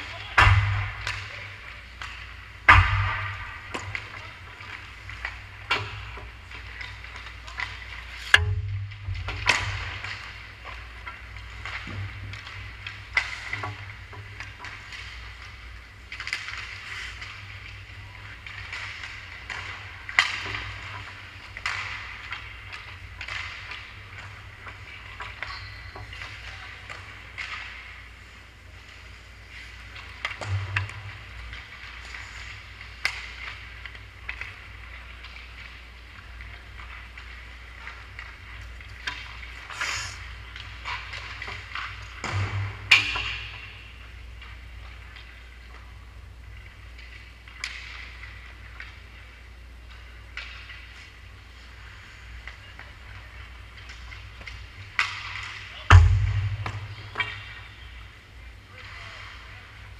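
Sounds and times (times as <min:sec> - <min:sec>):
sticks and pucks clacking: 0:00.0 - 0:59.9.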